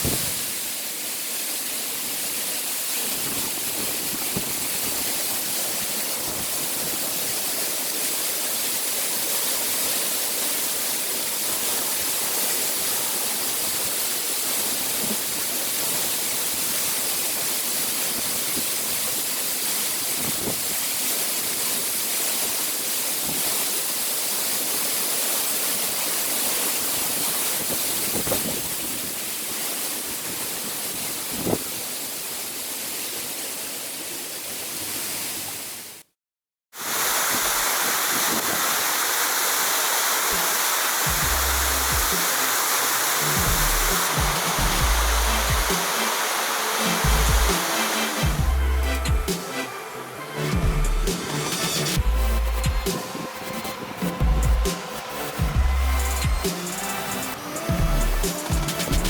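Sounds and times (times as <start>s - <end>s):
waterfall rushing: 0.0s - 34.1s, 36.8s - 59.0s.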